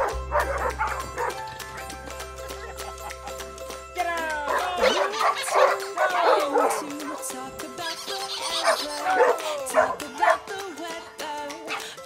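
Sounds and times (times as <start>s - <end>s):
dogs yipping and whining: 0.0s - 3.4s, 4.5s - 10.6s, 11.7s - 12.0s
background music: 0.0s - 12.0s.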